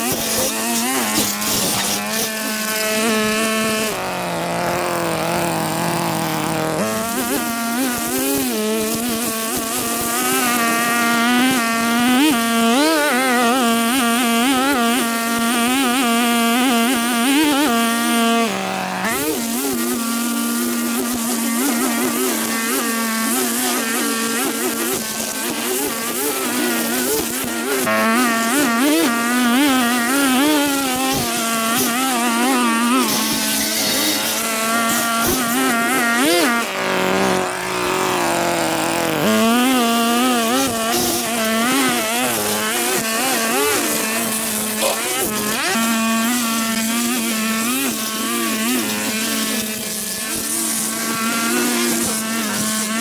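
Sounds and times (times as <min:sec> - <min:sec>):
small petrol engine running: 0:00.0 - 0:53.0.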